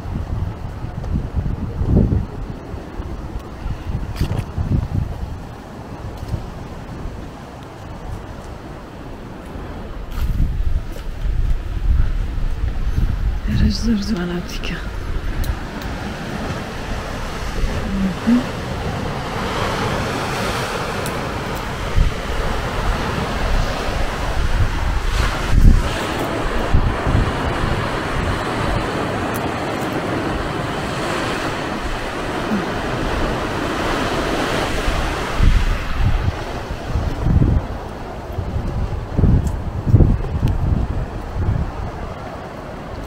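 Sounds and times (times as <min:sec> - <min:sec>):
sea surf washing against rocks: 0:00.0 - 0:43.0
wind buffeting microphone: 0:00.0 - 0:43.0.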